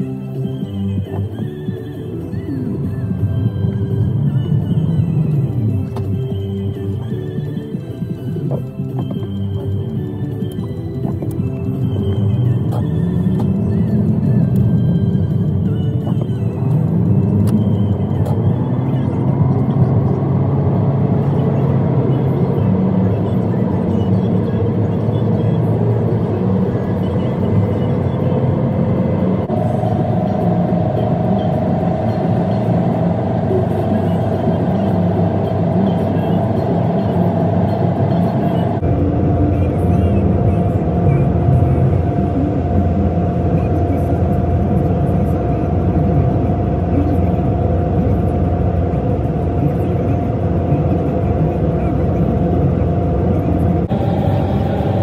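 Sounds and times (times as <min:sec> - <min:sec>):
road vehicle engine drone: 0:00.0 - 0:55.0.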